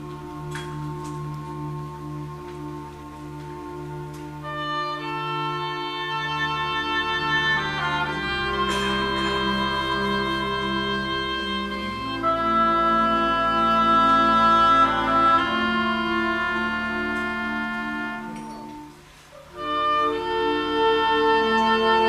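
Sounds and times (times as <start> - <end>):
wind band playing held chords: 0.0 - 22.0.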